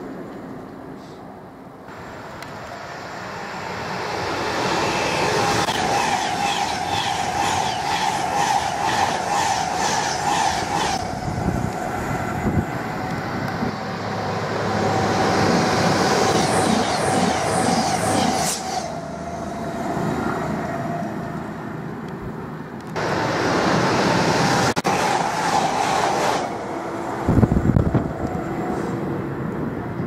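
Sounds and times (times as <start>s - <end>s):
diesel train approaching: 0.0s - 30.0s
electric train passing: 0.0s - 30.0s.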